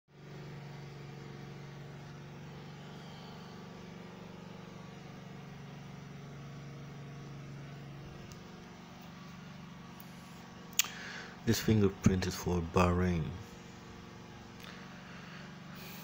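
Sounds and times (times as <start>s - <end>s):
low mechanical hum: 0.1s - 16.0s.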